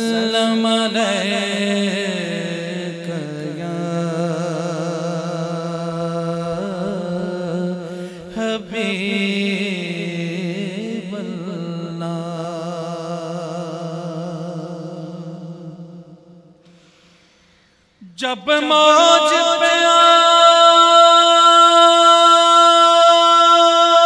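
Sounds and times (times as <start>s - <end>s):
man singing devotional phrase: 0.0s - 16.4s, 18.0s - 24.0s.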